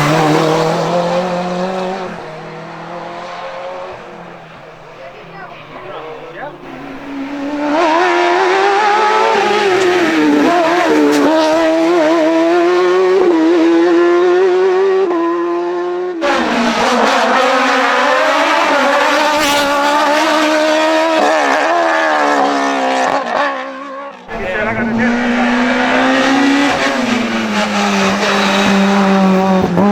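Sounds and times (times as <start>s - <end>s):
race car engines at full throttle: 0.0s - 29.9s.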